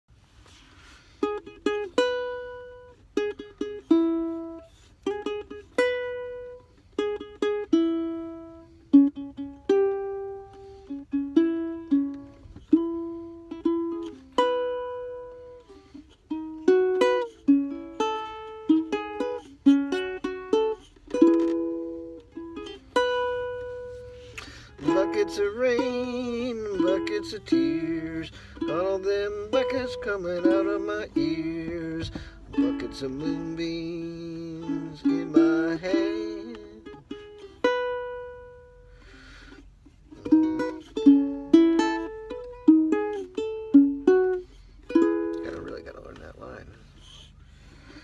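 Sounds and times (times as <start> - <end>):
solo ukulele playing: 0.5 - 46.6.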